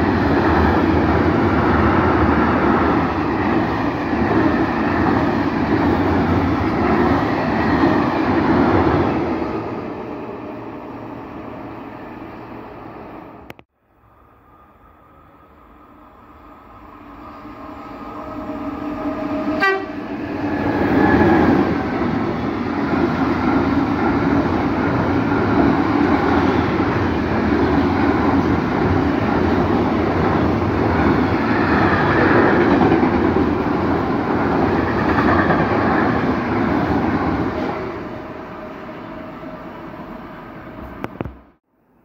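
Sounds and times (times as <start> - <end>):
freight train passing: 0.0 - 42.0
steady locomotive tone: 0.0 - 42.0.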